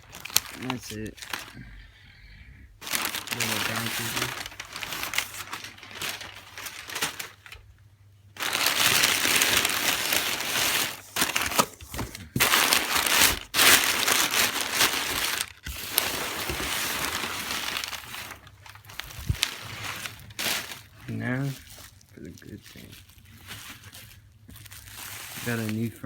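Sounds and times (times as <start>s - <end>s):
packing material crumpling: 0.0s - 1.7s, 2.8s - 7.7s, 8.4s - 26.0s.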